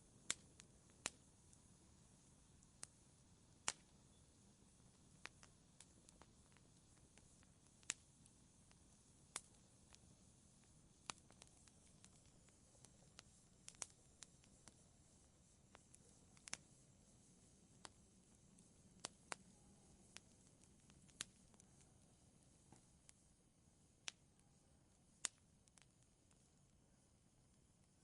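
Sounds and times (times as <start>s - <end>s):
faint steady hiss: 0.0s - 28.0s
wood fire crackling: 0.0s - 28.0s.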